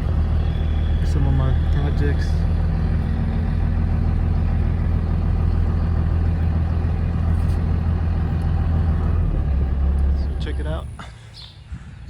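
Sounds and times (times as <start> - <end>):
truck engine droning: 0.0 - 11.4.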